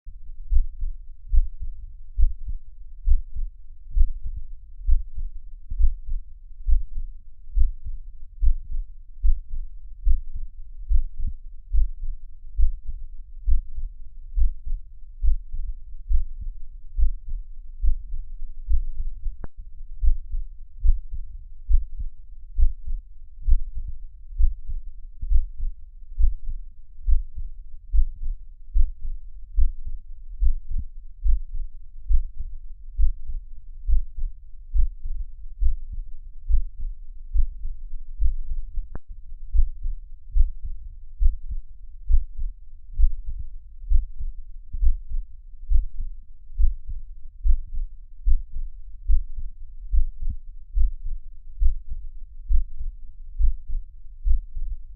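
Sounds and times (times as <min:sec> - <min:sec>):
heartbeat double beats: 0:00.4 - 0:54.9.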